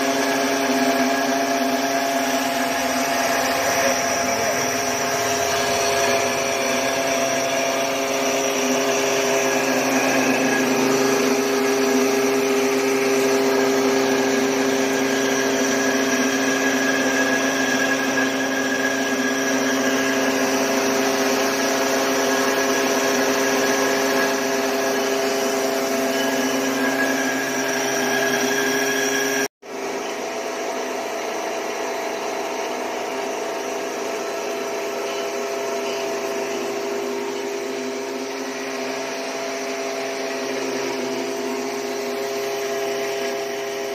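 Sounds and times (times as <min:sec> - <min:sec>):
rice mill machine humming: 0:00.0 - 0:43.9.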